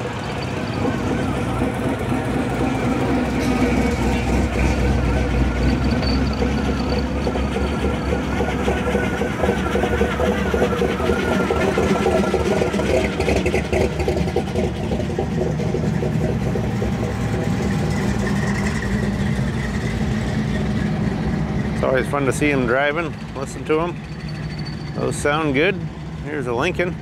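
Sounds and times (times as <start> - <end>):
car engines at low revs: 0.0 - 27.0.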